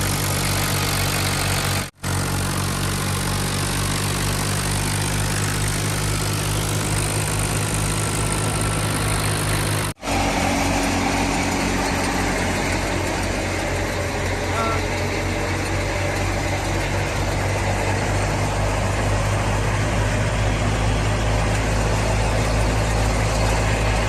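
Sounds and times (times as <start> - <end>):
thresher rushing noise: 0.0 - 24.0
tractor diesel engine running: 0.0 - 24.0.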